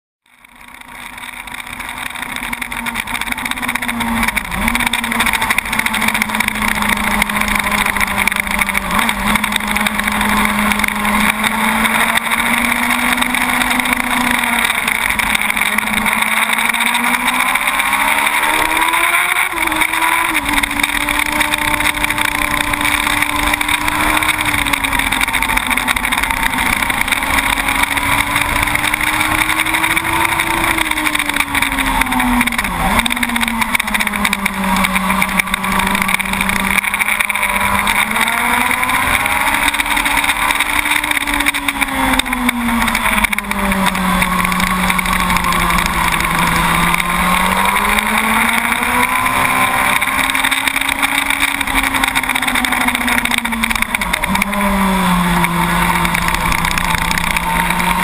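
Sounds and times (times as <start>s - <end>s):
motorcycle engine running hard: 0.2s - 58.0s.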